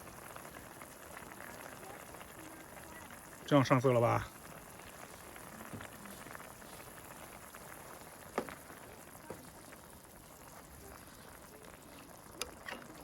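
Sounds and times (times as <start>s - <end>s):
pot simmering and bubbling: 0.0s - 13.0s.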